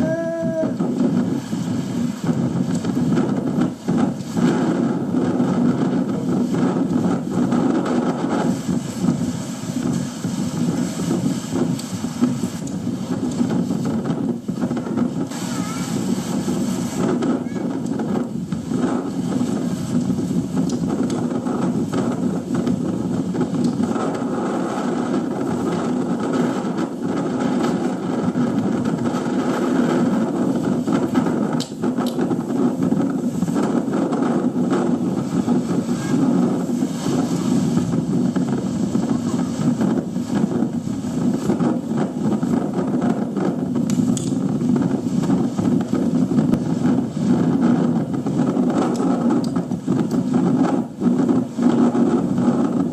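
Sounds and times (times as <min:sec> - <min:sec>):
strong wind rushing: 0:00.0 - 0:52.9.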